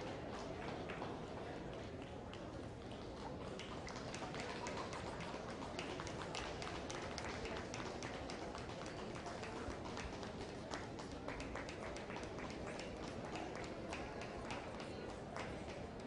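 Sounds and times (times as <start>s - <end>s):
crowd murmur in a hall: 0.0s - 16.0s
scattered taps and claps: 0.2s - 16.0s.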